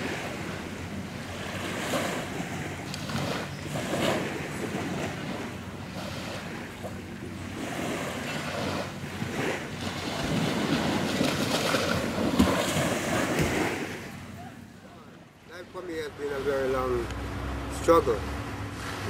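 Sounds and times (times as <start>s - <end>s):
small waves washing onto beach: 0.0s - 19.0s.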